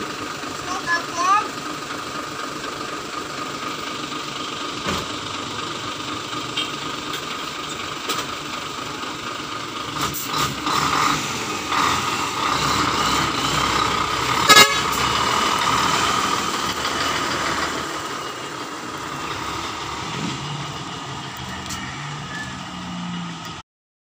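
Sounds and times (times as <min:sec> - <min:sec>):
diesel truck engine idling: 0:00.0 - 0:23.6.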